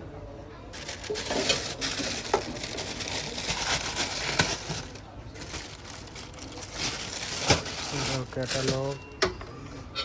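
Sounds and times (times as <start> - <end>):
packaging rustling and crinkling: 0.7 - 9.1.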